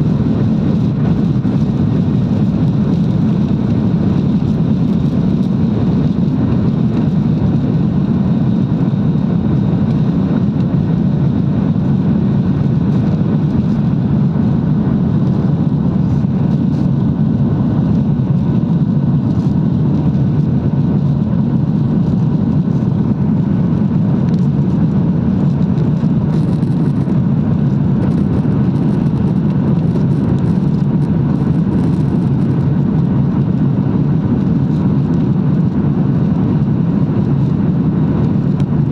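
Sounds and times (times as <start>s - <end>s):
airliner cabin engine noise: 0.0s - 38.9s.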